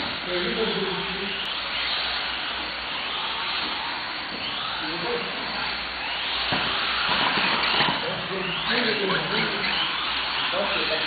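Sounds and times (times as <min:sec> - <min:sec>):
toy car electric motors whining: 0:00.0 - 0:11.0.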